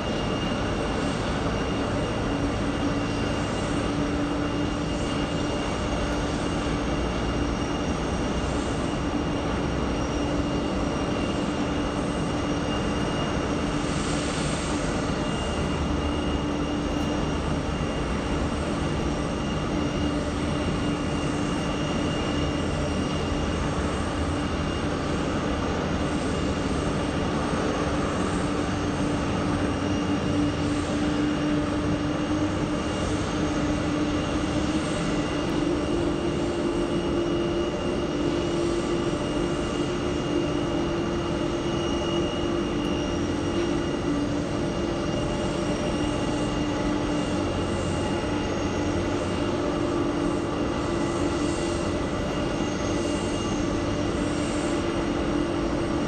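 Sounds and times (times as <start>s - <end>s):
jet engines idling: 0.0s - 56.0s.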